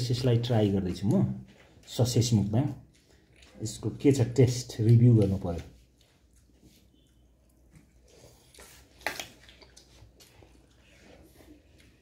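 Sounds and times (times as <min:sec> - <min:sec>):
quiet chewing: 0:00.2 - 0:12.0.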